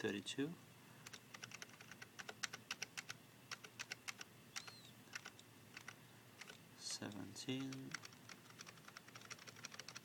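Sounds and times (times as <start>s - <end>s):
keyboard keys clicking: 1.0s - 10.0s.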